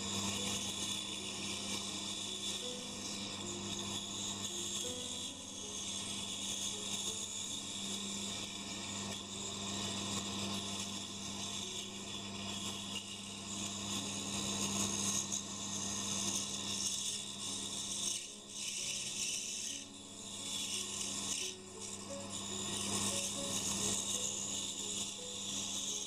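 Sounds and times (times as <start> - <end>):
band saw cutting wood: 0.0 - 26.0.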